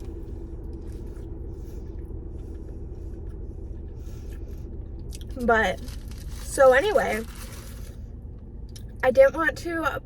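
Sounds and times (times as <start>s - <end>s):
faint steady hum: 0.0s - 10.0s
low rumble inside a car: 0.0s - 10.0s.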